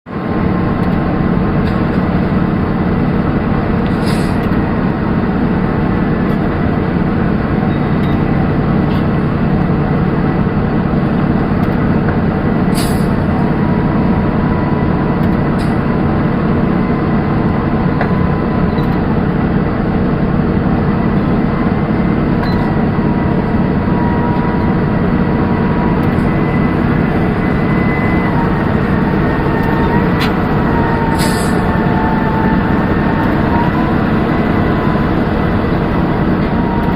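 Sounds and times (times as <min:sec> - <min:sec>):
excavator diesel engine running: 0:00.1 - 0:36.9.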